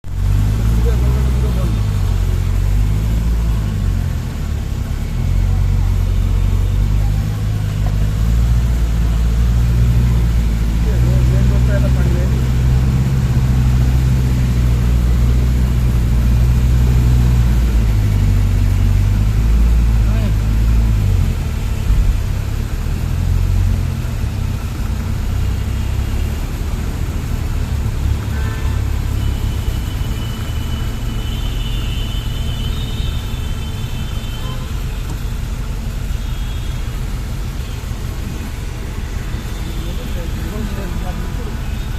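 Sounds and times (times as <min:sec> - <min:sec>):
traffic rumble: 0:00.0 - 0:41.9
vehicle engine humming: 0:00.0 - 0:41.9.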